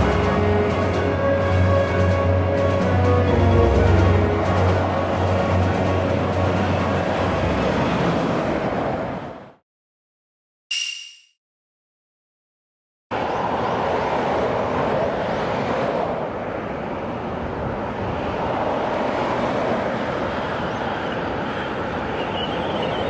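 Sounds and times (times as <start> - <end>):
expressway traffic rushing: 0.0 - 9.6, 13.1 - 23.0.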